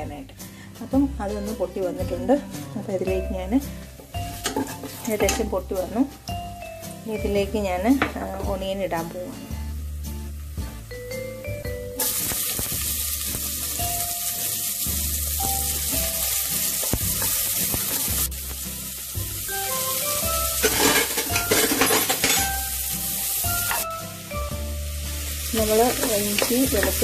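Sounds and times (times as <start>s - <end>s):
onions sizzling in hot oil: 3.3s - 27.0s.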